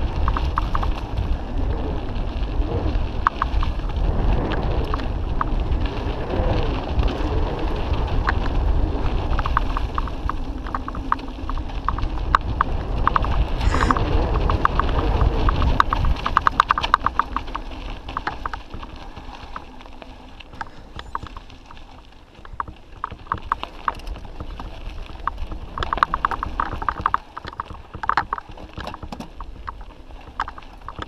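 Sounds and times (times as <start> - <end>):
bike rattles and knocks: 0.0 - 31.0
freewheel hub ticking: 0.0 - 31.0
wind rumble on microphone: 0.0 - 31.0.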